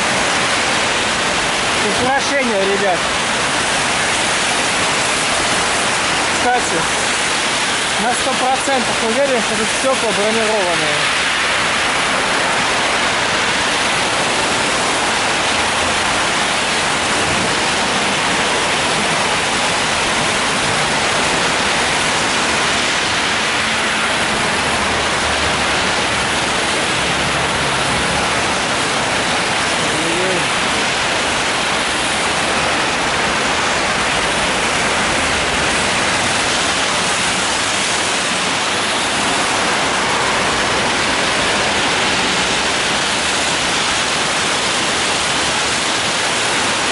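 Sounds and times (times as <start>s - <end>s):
car tyres hissing on wet road: 0.0s - 46.9s
heavy rain on an umbrella: 0.0s - 46.9s.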